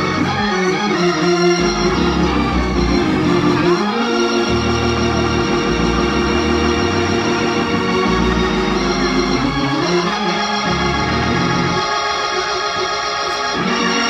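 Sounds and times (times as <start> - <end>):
organ playing gospel chords: 0.0 - 14.0.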